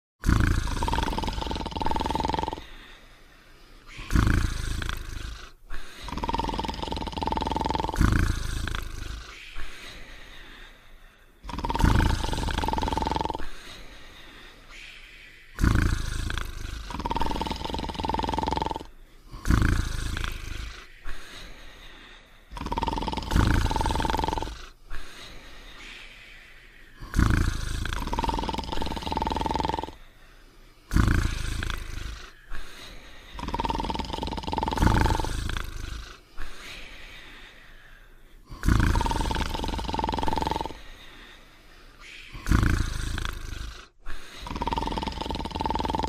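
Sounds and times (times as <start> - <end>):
cartoon dog snoring with whistle: 0.2 - 2.9, 3.8 - 10.2, 11.4 - 13.9, 14.7 - 21.6, 22.5 - 26.1, 26.9 - 30.0, 30.9 - 36.9, 38.5 - 41.0, 41.9 - 46.0.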